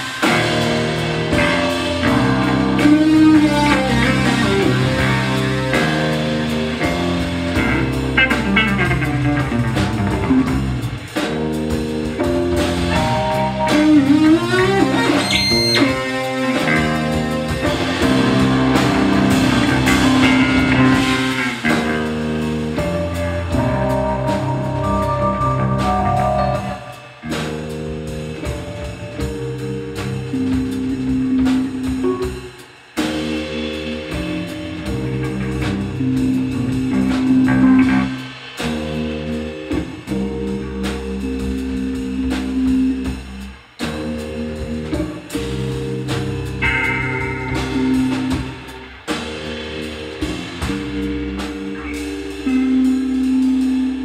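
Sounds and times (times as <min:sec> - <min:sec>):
electric bass: 0:00.0 - 0:32.4, 0:33.0 - 0:54.0
drum kit: 0:00.0 - 0:54.0
keyboard: 0:00.0 - 0:54.0.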